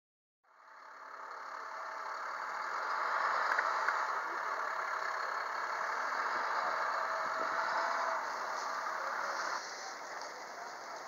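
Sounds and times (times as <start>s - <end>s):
diesel engine idling: 0.5s - 11.0s.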